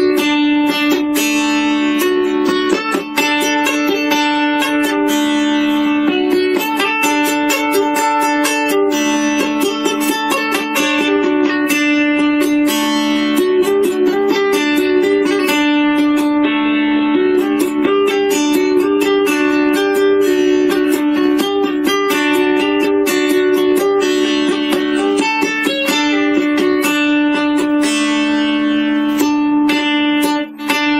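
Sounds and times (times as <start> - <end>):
plucked string notes: 0.0 - 30.9.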